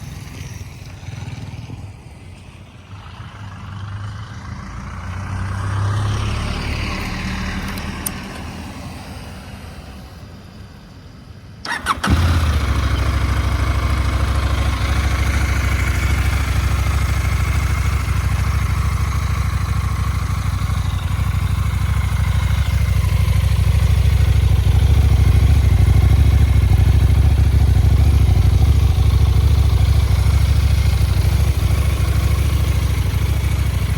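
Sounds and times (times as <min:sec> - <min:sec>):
motorcycle engine starting and idling: 0:00.0 - 0:08.7, 0:11.6 - 0:33.9.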